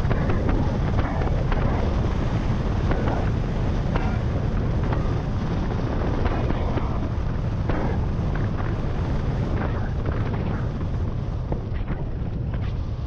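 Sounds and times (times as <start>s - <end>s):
road rumble: 0.0s - 13.0s
wind buffeting microphone: 0.0s - 13.0s.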